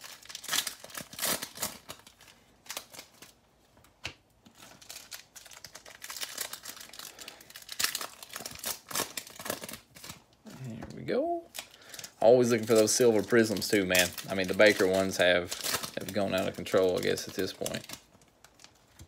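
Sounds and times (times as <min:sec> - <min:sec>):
foil wrappers crinkling and tearing: 0:00.0 - 0:03.4, 0:04.5 - 0:10.4, 0:11.0 - 0:19.0.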